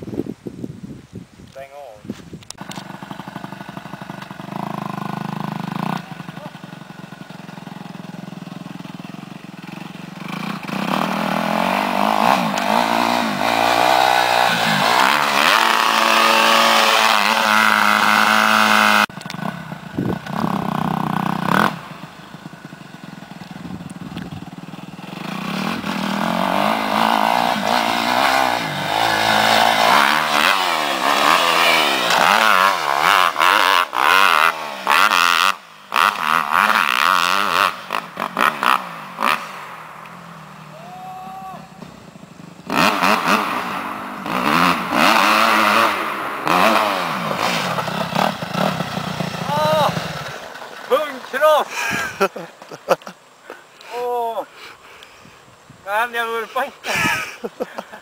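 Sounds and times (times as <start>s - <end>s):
dirt bike engine revving: 2.6s - 52.3s.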